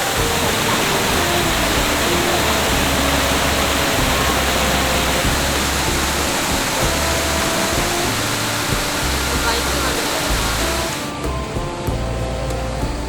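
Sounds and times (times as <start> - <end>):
waterfall rushing: 0.0 - 11.6
soft background music: 0.0 - 13.0.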